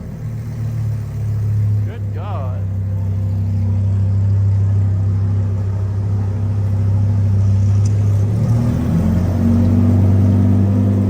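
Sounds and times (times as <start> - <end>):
car engines with loud exhausts: 0.0 - 11.0.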